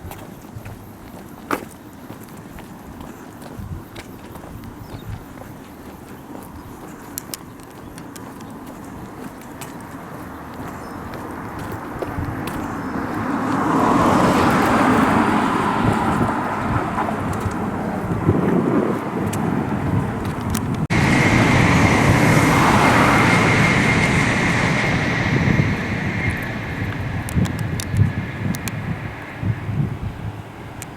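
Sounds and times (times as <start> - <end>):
vehicles passing close by: 0.0 - 30.9.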